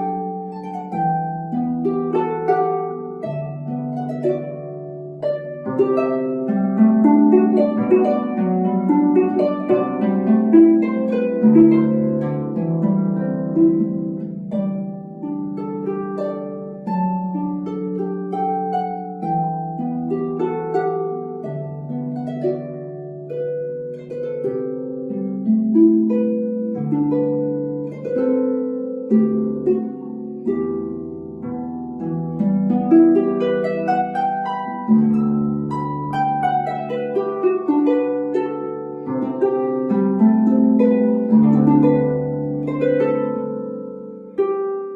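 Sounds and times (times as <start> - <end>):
harp playing: 0.0 - 44.9.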